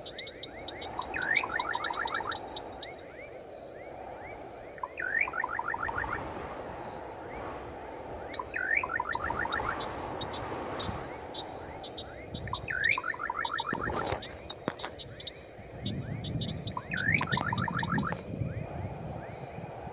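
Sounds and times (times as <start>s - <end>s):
crickets droning: 0.0s - 19.9s
high ticking bursts: 0.0s - 19.9s.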